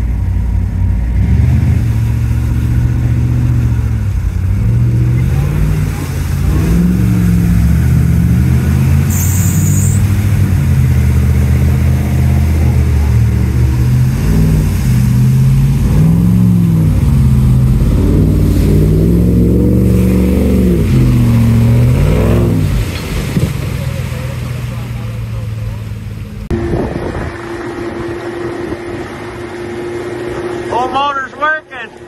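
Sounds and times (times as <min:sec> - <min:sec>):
pickup engine revving: 0:00.0 - 0:31.6.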